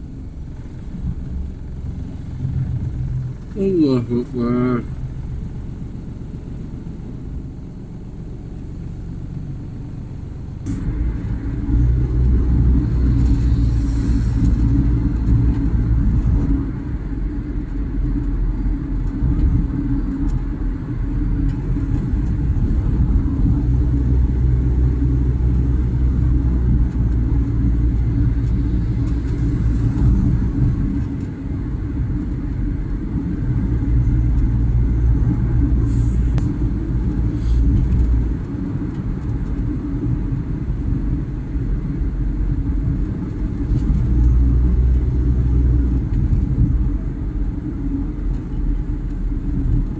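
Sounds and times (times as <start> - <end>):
car engine and road noise: 0.0 - 49.9.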